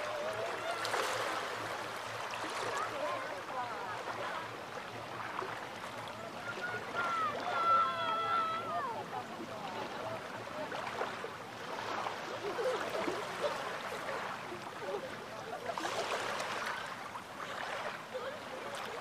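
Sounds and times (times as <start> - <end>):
small waves lapping shore: 0.0 - 19.0.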